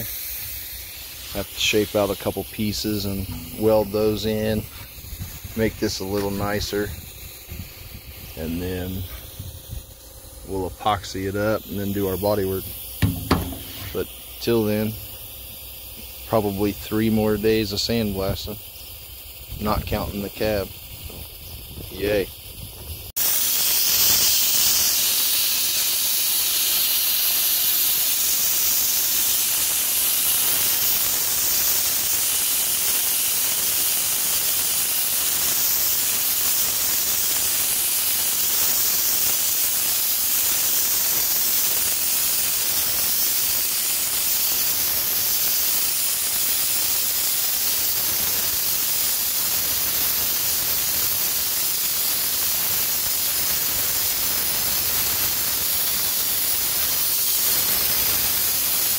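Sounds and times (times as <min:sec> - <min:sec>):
sandblaster hissing: 0:00.0 - 0:58.9.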